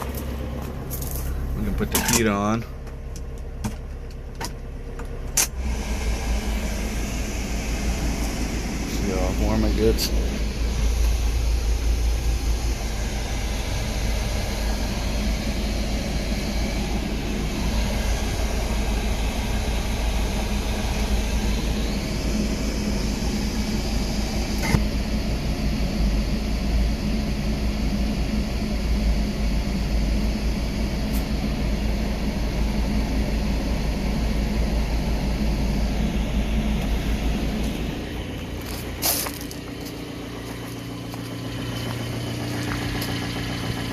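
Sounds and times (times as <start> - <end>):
engine idling: 0.0 - 43.9
heater blower fan running: 0.0 - 43.9.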